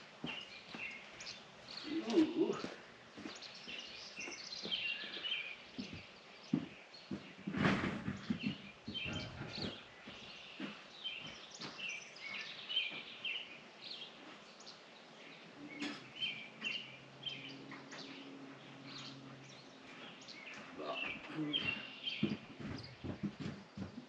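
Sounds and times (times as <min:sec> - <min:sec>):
birds chirping and calling: 0:00.2 - 0:24.0.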